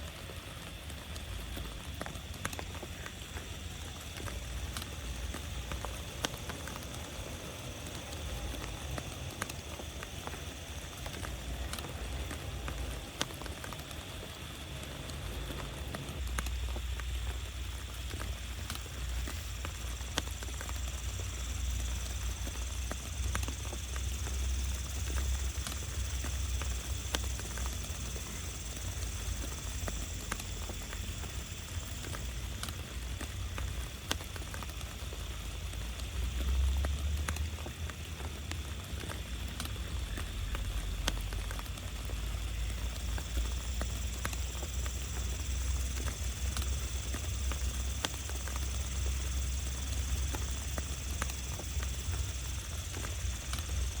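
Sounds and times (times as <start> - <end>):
low rumble of heavy rain: 0.0 - 54.0
rain drops tapping on tarp: 0.0 - 54.0.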